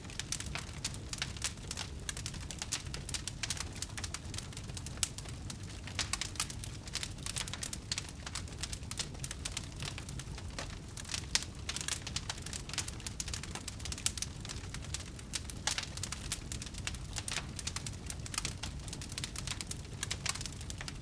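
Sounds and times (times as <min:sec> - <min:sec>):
low rumble of flames: 0:00.0 - 0:21.0
fire pops and snaps: 0:00.1 - 0:21.0.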